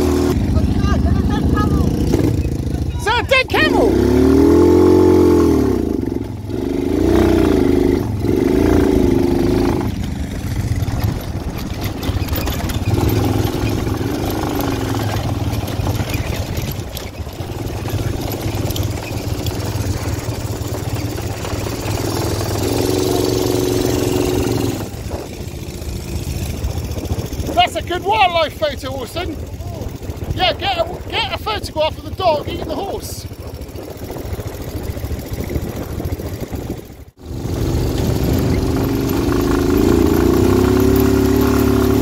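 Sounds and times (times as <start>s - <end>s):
quad bike engine revving: 0.0s - 42.0s.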